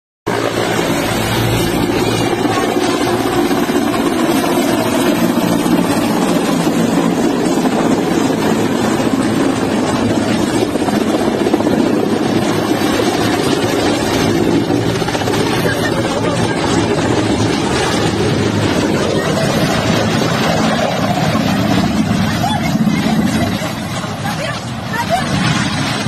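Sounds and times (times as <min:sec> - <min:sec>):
helicopter rotor and turbine noise: 0:00.3 - 0:26.0.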